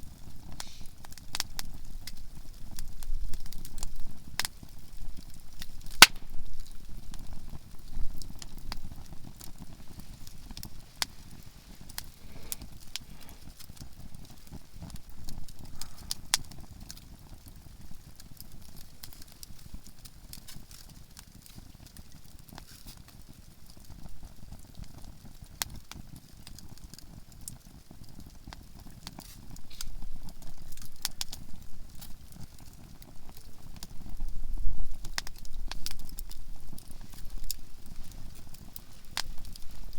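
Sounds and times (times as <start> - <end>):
campfire crackling and popping: 0.0 - 39.9
low burning rumble: 0.0 - 39.9.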